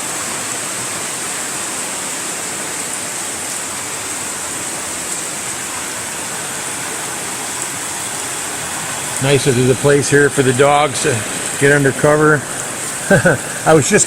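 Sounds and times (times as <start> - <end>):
heavy rain: 0.0 - 14.0
rainwater running off: 0.0 - 14.0.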